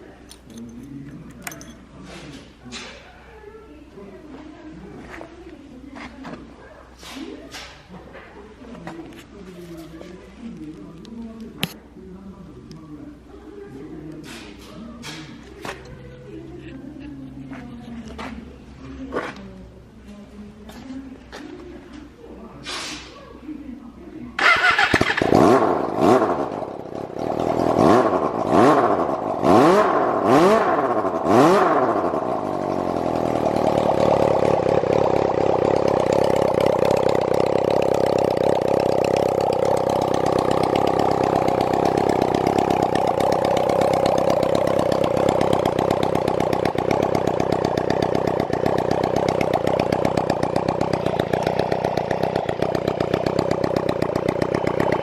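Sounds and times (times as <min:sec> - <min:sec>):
motorcycle engine revving and idling: 0:00.0 - 0:22.2, 0:24.3 - 0:55.0.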